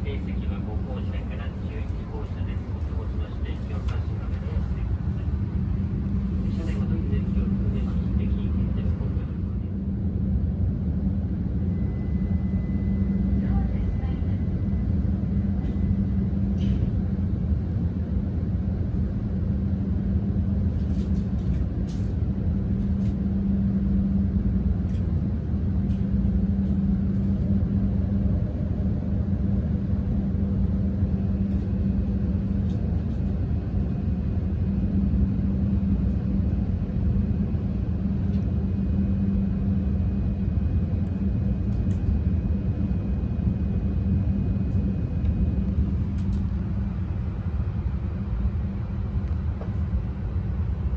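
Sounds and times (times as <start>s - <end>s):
constant hum: 0.0s - 50.9s
train running low rumble: 0.0s - 50.9s.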